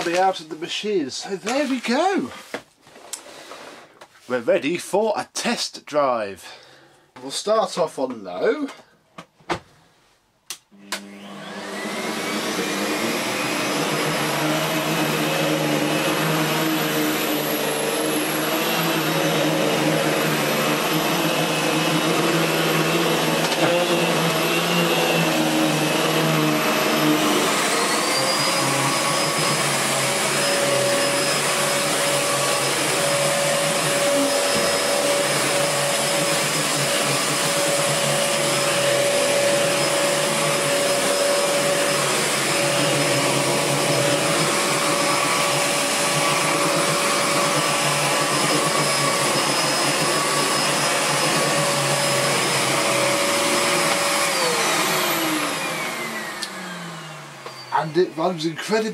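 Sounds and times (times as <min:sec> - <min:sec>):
vacuum cleaner on carpet: 0:00.0 - 0:00.5, 0:10.8 - 0:58.9.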